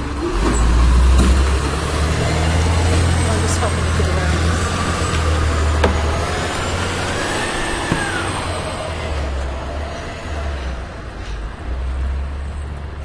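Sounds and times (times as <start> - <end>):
diesel engine idling: 0.0 - 12.4.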